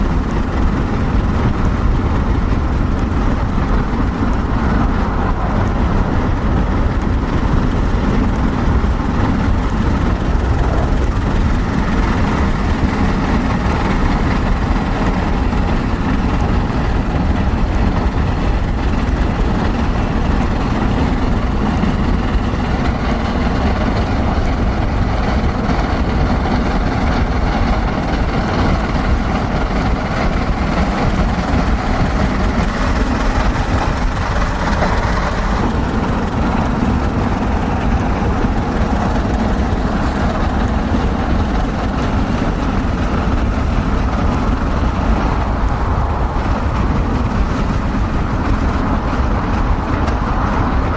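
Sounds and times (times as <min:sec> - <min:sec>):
vehicle rumble and road noise: 0:00.0 - 0:50.9.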